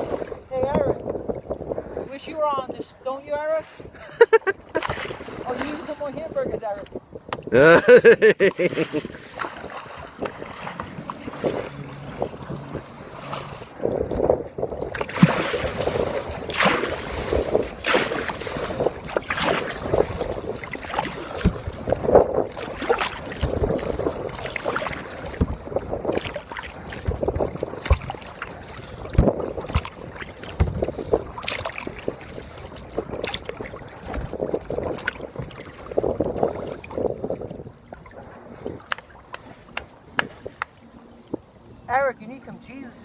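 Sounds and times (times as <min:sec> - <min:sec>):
water sloshing against hull: 0:00.0 - 0:43.0
paddle splashing in water: 0:03.6 - 0:06.3, 0:07.3 - 0:41.6.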